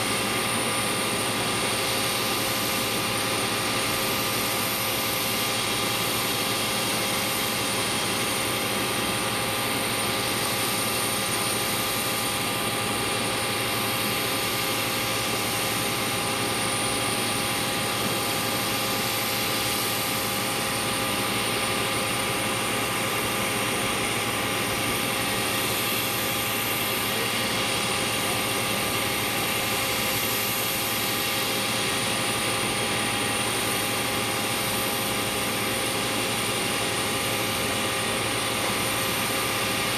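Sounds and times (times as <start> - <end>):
jet turbine whine and rush: 0.0 - 39.9.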